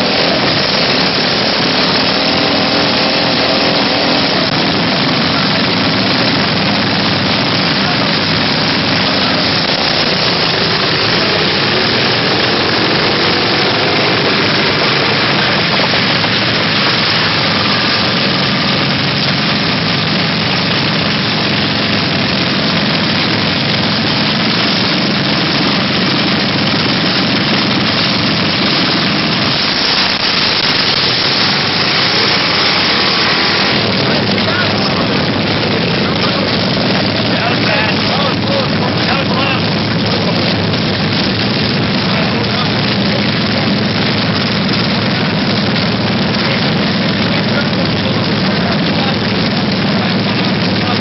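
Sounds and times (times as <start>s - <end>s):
mini bike engines running: 0.0s - 51.0s.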